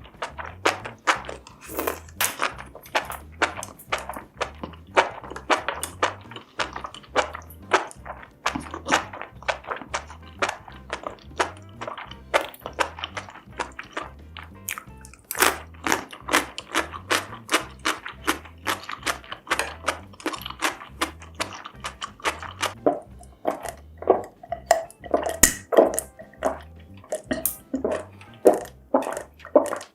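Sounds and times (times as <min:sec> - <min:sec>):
person chewing food: 0:00.0 - 0:29.9.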